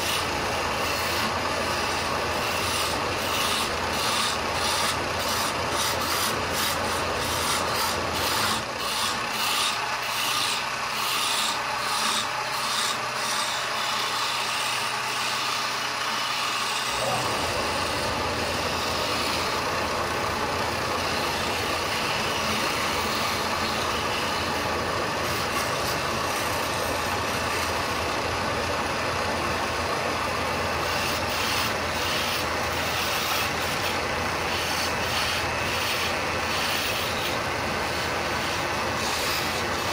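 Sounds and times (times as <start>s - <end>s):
lathe motor rumble: 0.0s - 39.9s
turning tool scraping wood: 0.0s - 39.9s.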